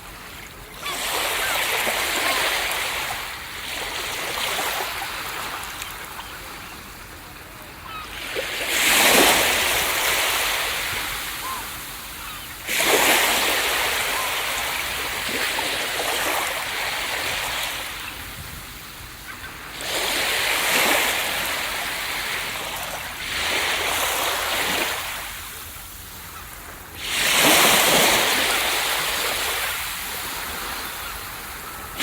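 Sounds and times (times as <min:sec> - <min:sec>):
ocean waves breaking on beach: 0:00.0 - 0:32.0.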